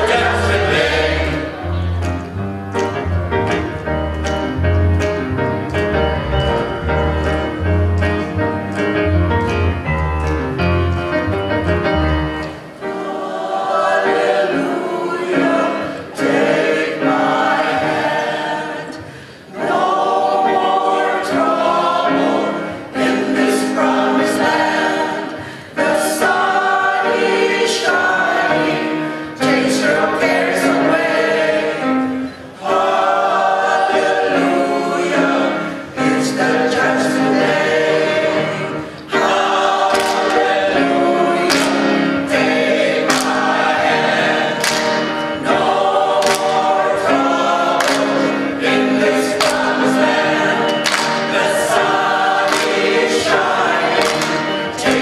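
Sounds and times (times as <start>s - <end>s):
mixed choir singing: 0.0s - 3.8s, 12.4s - 55.0s
piano accompaniment: 0.0s - 55.0s.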